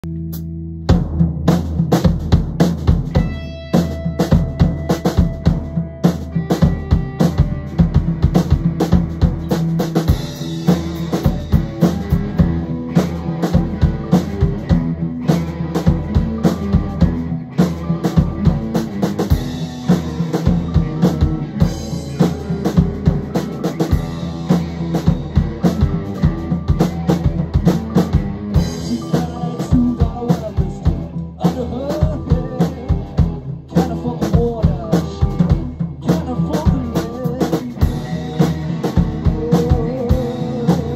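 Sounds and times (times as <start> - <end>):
drum kit beat: 0.0 - 40.9
electric guitars: 0.0 - 40.9.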